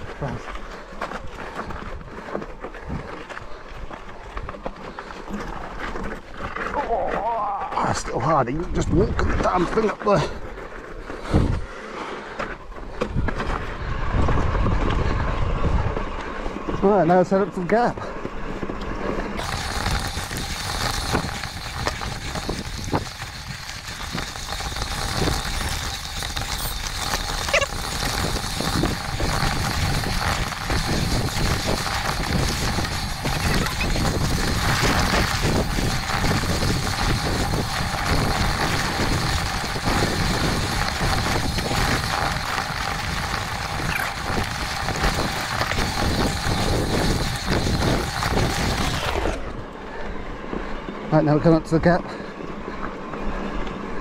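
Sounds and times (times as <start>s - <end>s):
bike rattling and knocking: 0.0s - 49.7s
tyres crunching over stones: 0.0s - 49.7s
steady rumble: 0.0s - 51.5s.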